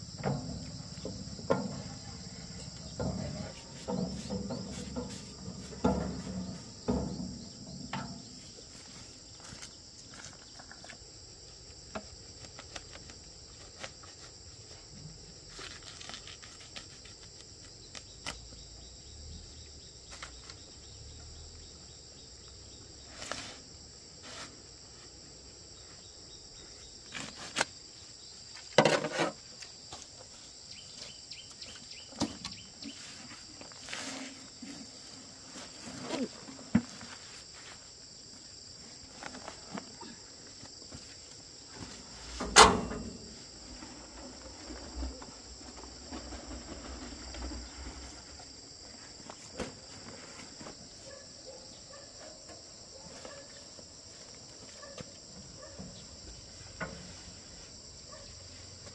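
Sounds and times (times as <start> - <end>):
insect chorus: 0.0 - 58.9.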